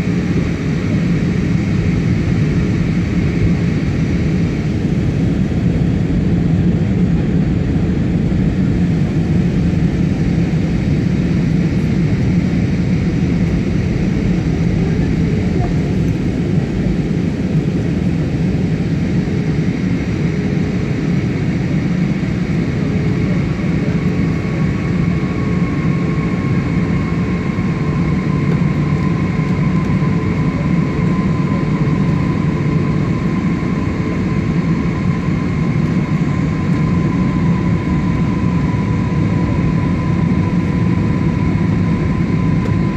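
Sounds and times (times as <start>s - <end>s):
jet engines and airflow rush: 0.0s - 42.9s.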